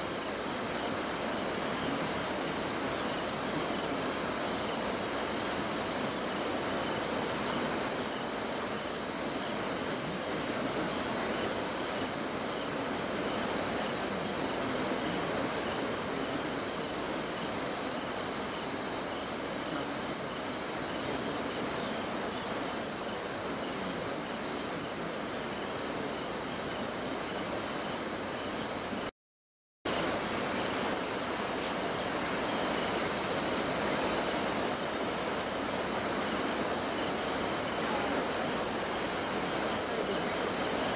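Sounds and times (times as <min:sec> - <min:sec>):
insects chorus: 0:00.0 - 0:29.1, 0:29.9 - 0:40.9.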